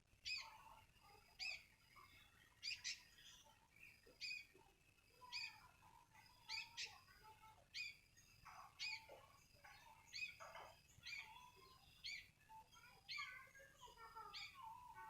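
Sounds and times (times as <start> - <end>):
bird chirping: 0.1 - 15.0.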